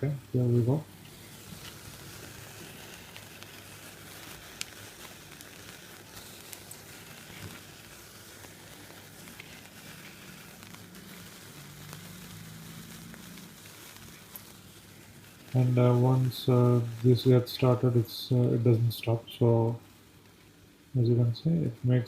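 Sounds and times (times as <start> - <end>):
firework pellets fizzing: 0.0 - 22.0
small crackles and ticks: 0.3 - 22.0.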